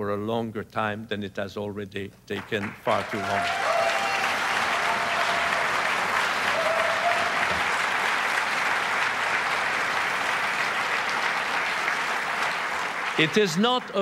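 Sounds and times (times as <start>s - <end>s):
audience applauding: 2.5s - 14.0s.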